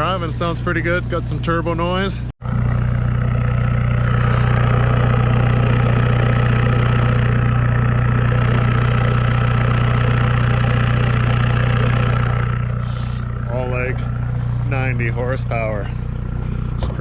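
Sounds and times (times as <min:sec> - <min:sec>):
diesel engine idling: 0:00.0 - 0:17.0
turbo whine: 0:00.0 - 0:17.0.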